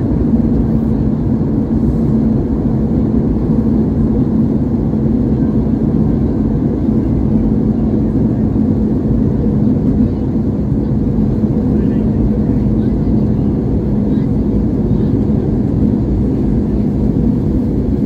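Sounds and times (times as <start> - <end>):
constant low hum: 0.0 - 18.0
engine and airflow rush: 0.0 - 18.0.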